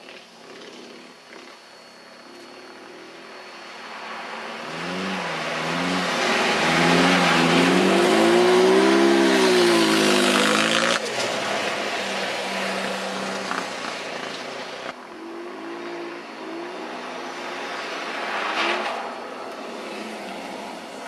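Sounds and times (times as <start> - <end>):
car engines revving: 2.9 - 21.0.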